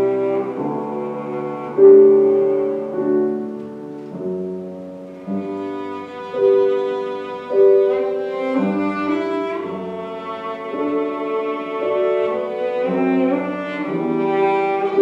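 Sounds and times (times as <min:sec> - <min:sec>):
bowed string instrument melody: 0:00.0 - 0:15.0
piano accompaniment: 0:00.0 - 0:15.0.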